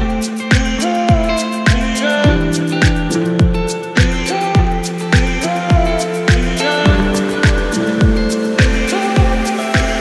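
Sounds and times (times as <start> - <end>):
deep kick drum: 0.0 - 10.0
held synth chords: 0.0 - 10.0.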